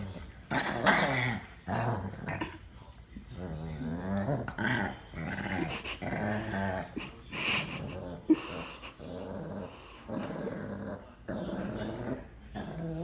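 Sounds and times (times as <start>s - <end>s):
puppy growling: 0.0s - 13.0s.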